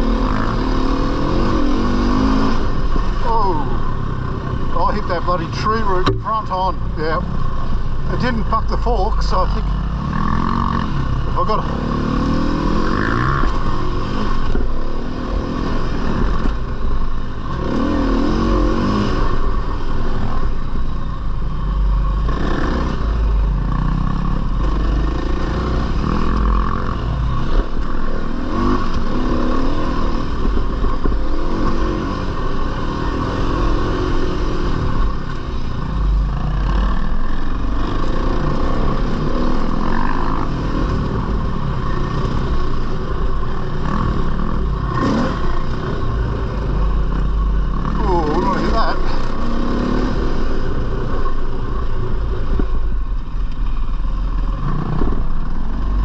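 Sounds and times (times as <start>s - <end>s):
dirt bike engine revving: 0.0s - 21.0s, 21.6s - 52.6s.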